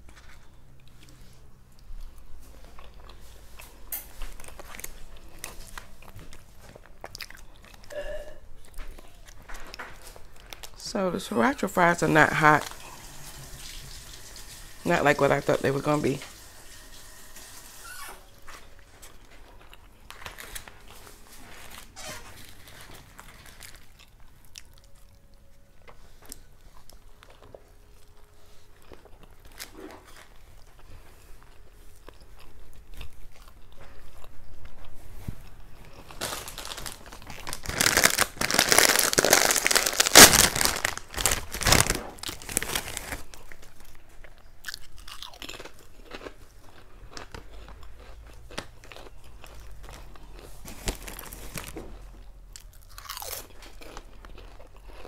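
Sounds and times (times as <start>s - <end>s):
person chewing crunchy food: 0.0s - 10.8s, 18.7s - 55.0s.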